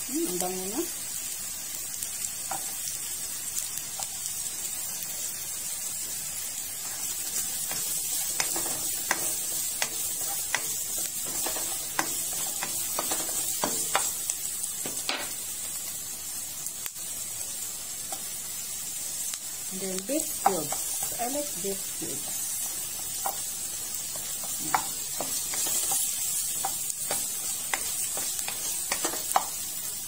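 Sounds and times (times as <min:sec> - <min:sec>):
onion sizzling in frying pan: 0:00.0 - 0:30.0.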